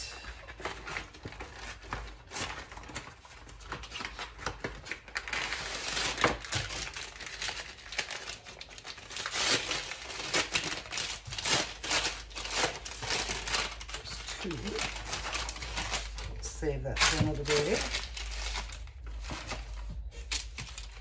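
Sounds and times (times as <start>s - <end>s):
packaging crinkling and rustling: 0.2s - 21.0s.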